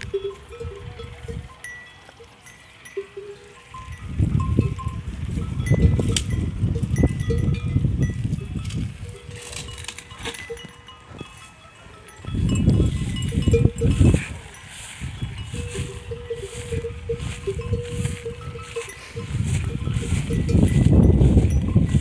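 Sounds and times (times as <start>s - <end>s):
livestock bells clinking: 0.0s - 22.0s.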